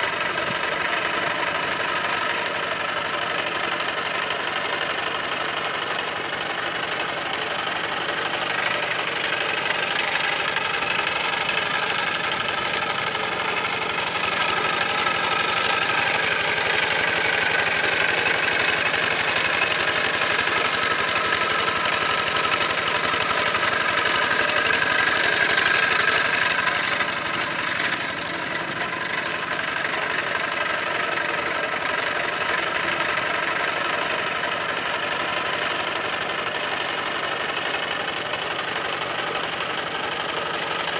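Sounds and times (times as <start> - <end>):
diesel engine running under load: 0.0 - 40.9
wheels dragging through mud: 0.0 - 40.9.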